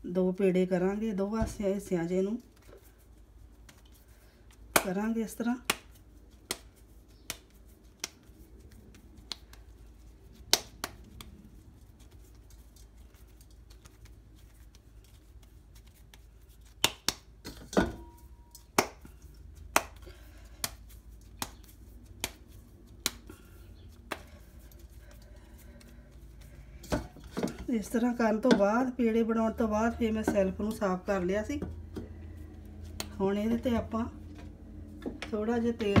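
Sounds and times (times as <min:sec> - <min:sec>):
hands working dough: 0:00.0 - 0:36.0.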